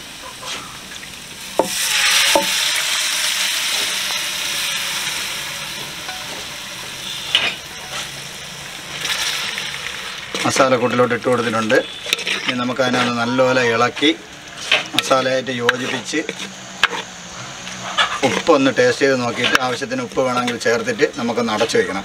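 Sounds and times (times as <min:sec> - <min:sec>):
spices sizzling in a pan: 0:00.0 - 0:22.0.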